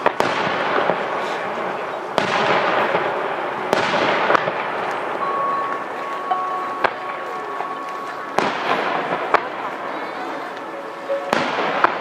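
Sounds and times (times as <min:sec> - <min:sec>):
continuous display noise: 0:00.0 - 0:12.0.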